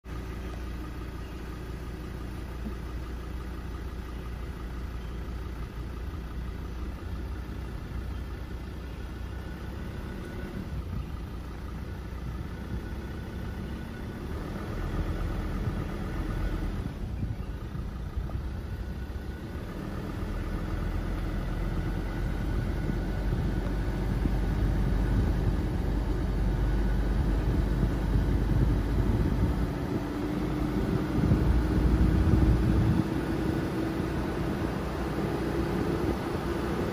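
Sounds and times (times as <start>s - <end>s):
car driving on paved road: 0.0s - 36.9s.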